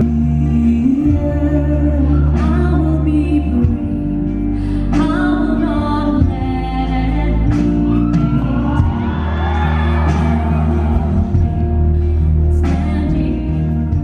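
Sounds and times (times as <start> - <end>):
woman singing into a microphone: 0.0 - 10.5, 12.4 - 14.0
live band playing: 0.0 - 14.0.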